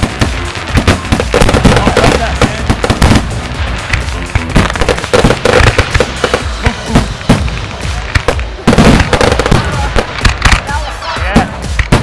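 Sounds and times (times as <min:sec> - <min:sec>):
low rumble: 0:00.0 - 0:10.7
fireworks bangs and crackles: 0:00.0 - 0:12.0.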